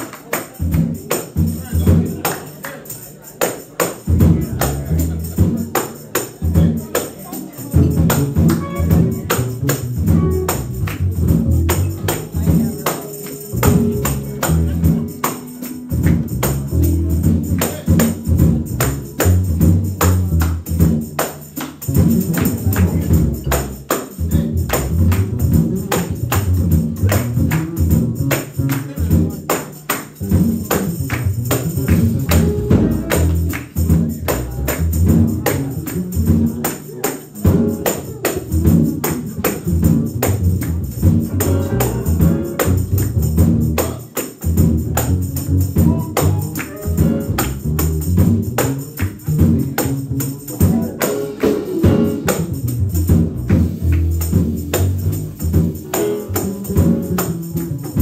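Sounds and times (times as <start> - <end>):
cymbal and drum strokes: 0.5 - 58.0
bass line: 4.1 - 5.8, 6.4 - 58.0
piano: 7.9 - 21.2, 21.8 - 44.0, 44.8 - 58.0.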